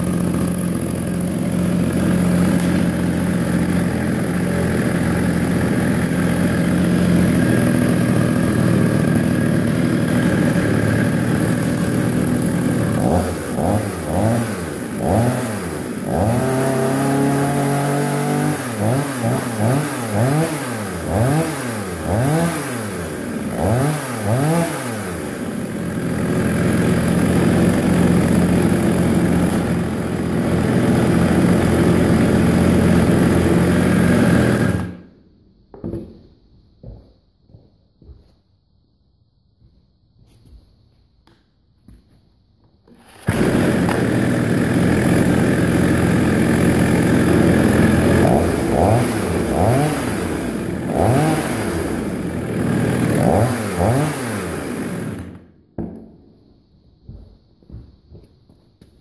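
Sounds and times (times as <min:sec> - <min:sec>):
chainsaw revving: 0:00.0 - 0:35.1, 0:42.9 - 0:55.5.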